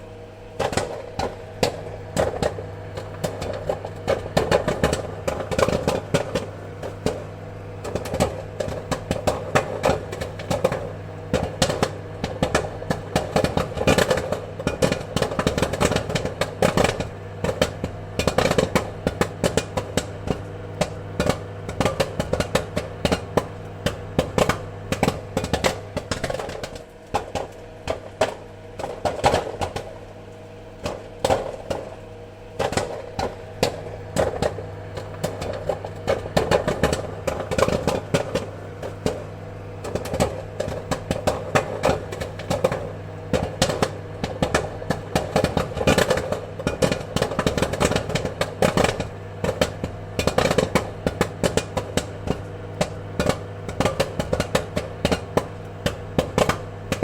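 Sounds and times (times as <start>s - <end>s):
popcorn popping: 0.0s - 57.0s
steady low hum: 0.0s - 57.0s.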